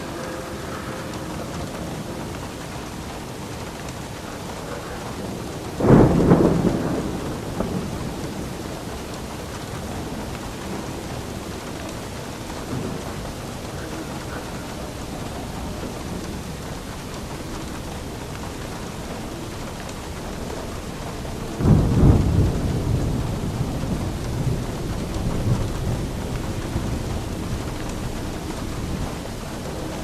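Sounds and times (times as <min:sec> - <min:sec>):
steady rain: 0:00.0 - 0:30.0
thunderclap rumbling: 0:00.0 - 0:30.0.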